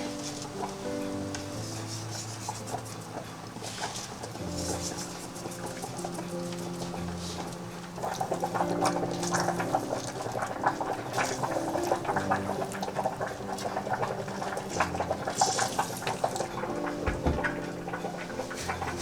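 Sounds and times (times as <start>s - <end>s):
soft music of held chords: 0.0s - 19.0s.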